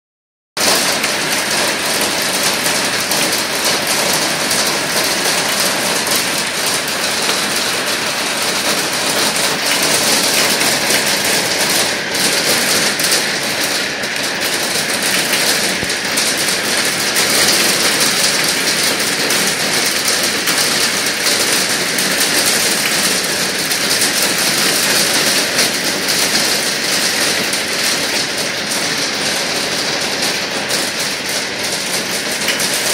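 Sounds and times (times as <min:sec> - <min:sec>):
heavy hail clattering: 0:00.6 - 0:32.9.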